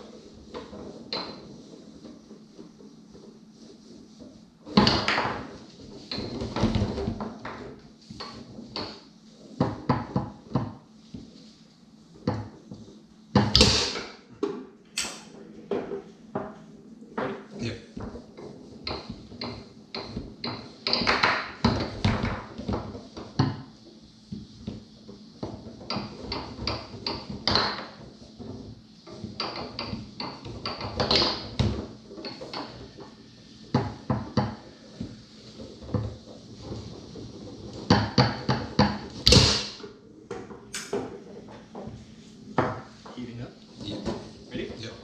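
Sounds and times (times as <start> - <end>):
foosball ball clacking: 0.0 - 3.3, 4.7 - 11.5, 12.1 - 43.1.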